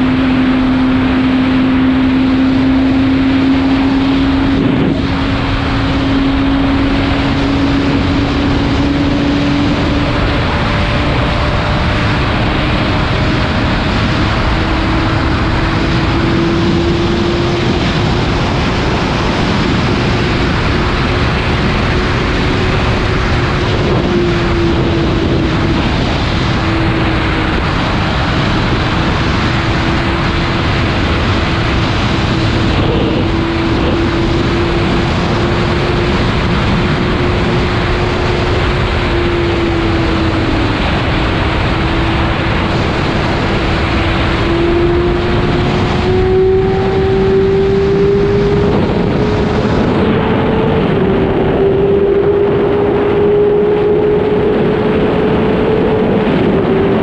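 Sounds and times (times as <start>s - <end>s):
loud wind noise: 0.0s - 57.0s
motorcycle engine cruising: 0.0s - 57.0s.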